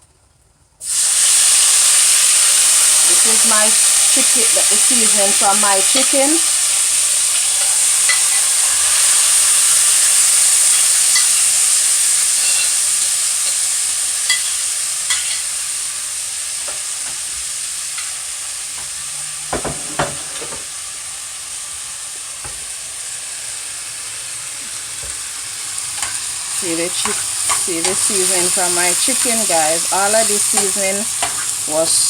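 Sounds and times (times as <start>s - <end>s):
seasoning sizzling in hot oil: 0.8s - 32.0s.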